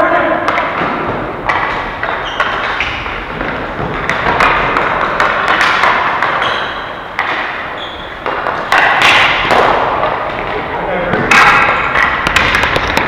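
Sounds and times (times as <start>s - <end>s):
hockey sticks knocking: 0.0s - 13.0s
plastic ball hitting boards: 0.4s - 13.0s
sharp cracks: 0.5s - 13.0s.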